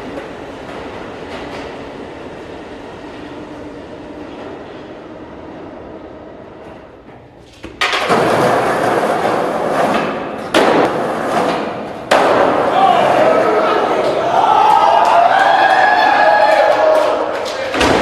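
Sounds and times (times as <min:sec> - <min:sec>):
skateboard wheels rolling on concrete: 0:00.0 - 0:18.0
subway train rumble: 0:00.0 - 0:18.0.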